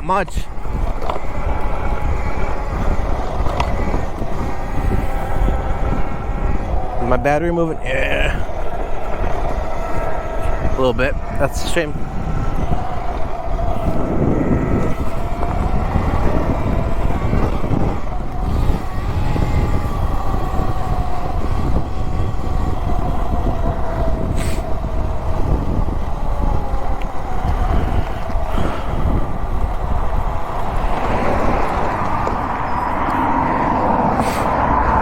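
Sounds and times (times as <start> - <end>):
electric motor whine: 0.0 - 35.0
wind rumble on microphone: 0.0 - 35.0.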